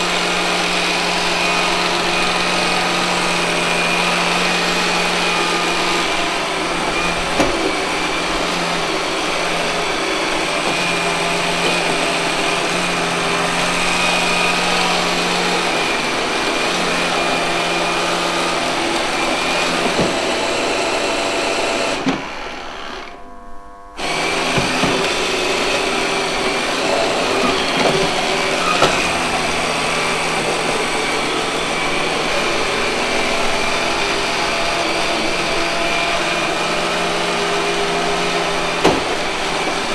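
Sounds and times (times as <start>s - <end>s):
vacuum knocking into things: 0.0s - 23.2s, 24.0s - 39.9s
robot vacuum cleaner whirring: 0.0s - 39.9s.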